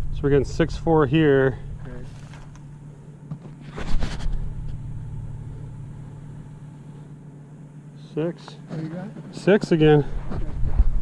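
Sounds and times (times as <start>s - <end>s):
vehicle engine idling: 0.0s - 10.2s.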